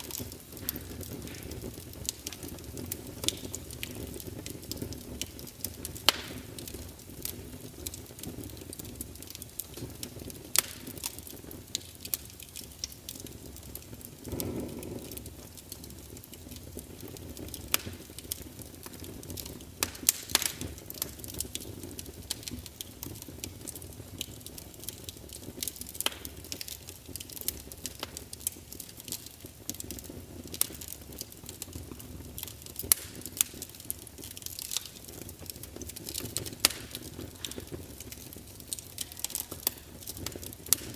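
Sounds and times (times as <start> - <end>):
fire hissing: 0.0 - 40.9
wood fire crackling: 0.0 - 40.9.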